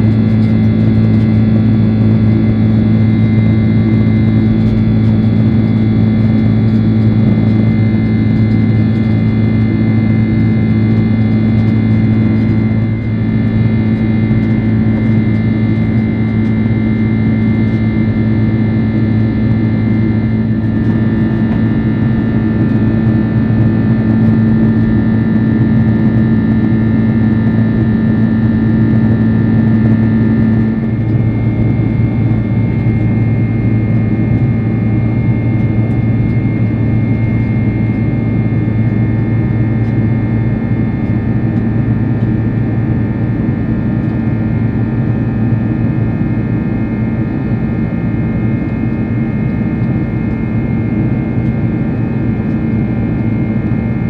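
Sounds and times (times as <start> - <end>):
humming tones: 0.0 - 54.0
jet engine cabin rumble: 0.0 - 54.0.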